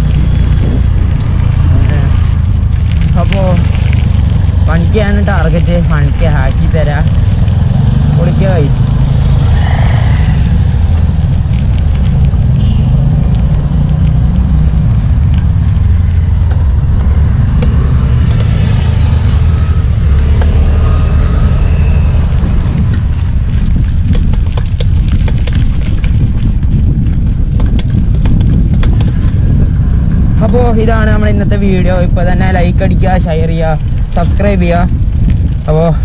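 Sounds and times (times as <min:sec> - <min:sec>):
bike road noise: 0:00.0 - 0:36.0
wind buffeting microphone: 0:00.0 - 0:36.0.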